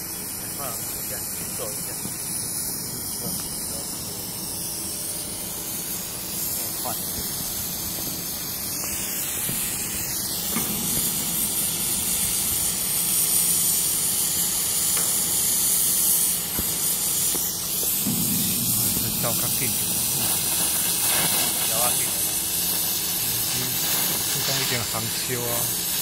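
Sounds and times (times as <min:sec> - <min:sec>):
cutting torch hissing: 0:00.0 - 0:26.0.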